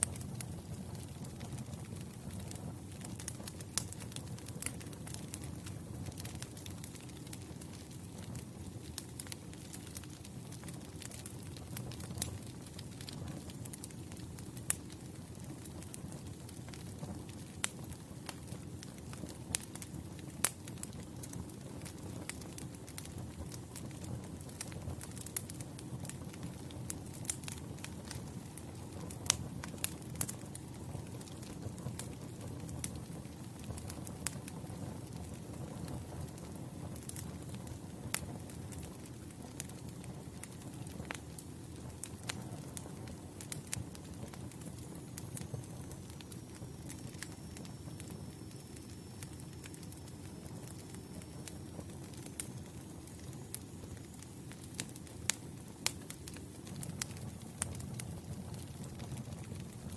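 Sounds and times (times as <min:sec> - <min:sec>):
campfire flames rumbling: 0:00.0 - 0:59.9
fire crackles and pops: 0:00.0 - 0:59.9.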